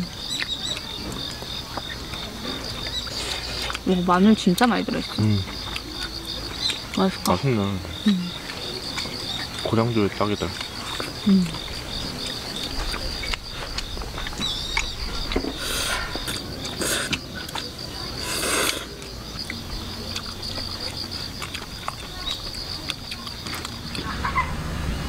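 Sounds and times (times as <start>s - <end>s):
insects chirping: 0.0s - 25.0s
rustling or eating noise: 0.0s - 25.0s.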